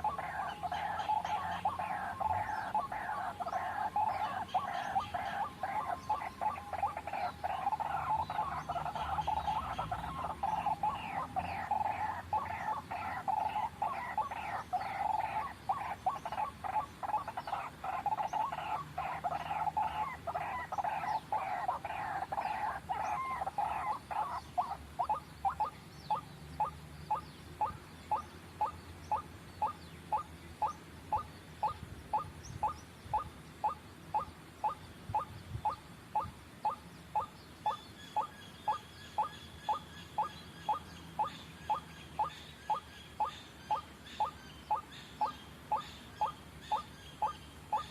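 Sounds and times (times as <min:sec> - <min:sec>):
bird croaking calls: 0:00.0 - 0:47.9.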